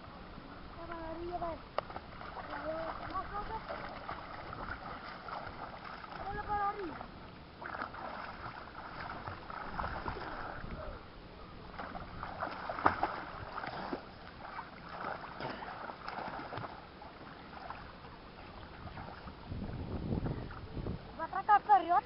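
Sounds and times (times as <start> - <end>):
swimmers splashing water: 0.8 - 11.0, 11.6 - 19.4.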